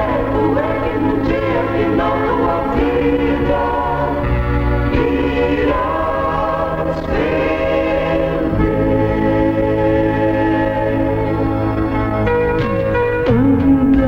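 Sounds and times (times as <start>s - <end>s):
gospel choir singing: 0.0s - 14.0s
instrumental backing: 0.0s - 14.0s.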